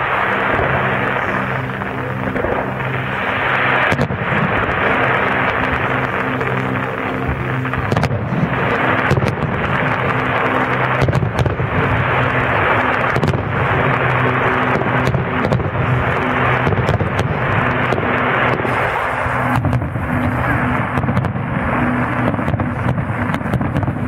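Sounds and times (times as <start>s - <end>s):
crackling sparks: 0.0s - 24.0s
fireworks bursting: 0.0s - 24.0s
steady low hum: 0.0s - 24.0s.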